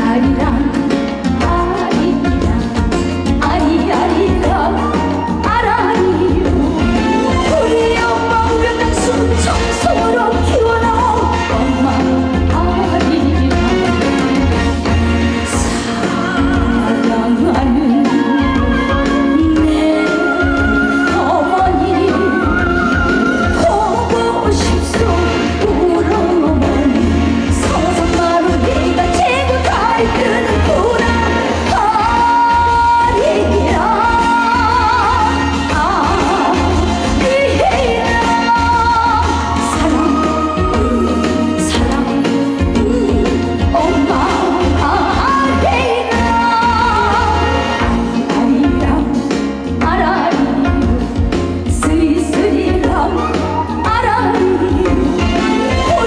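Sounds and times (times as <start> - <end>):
band with heavy bass: 0.0 - 56.0
woman singing: 0.0 - 56.0.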